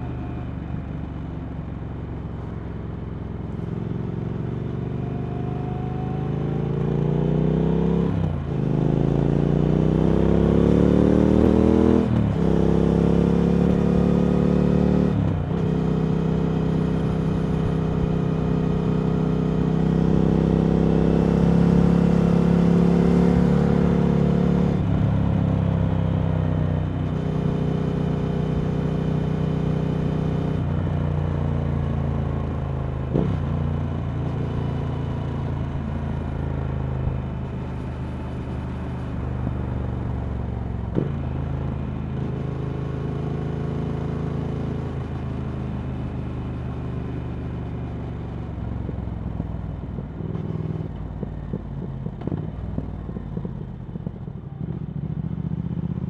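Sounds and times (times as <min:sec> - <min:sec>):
motorcycle engine accelerating: 0:03.4 - 0:56.0.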